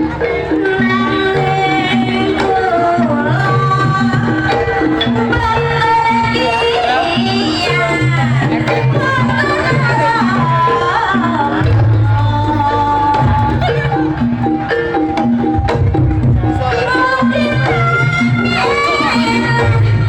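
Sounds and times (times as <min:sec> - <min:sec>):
hand drums beating: 0:00.0 - 0:20.0
metal percussion notes: 0:00.0 - 0:20.0.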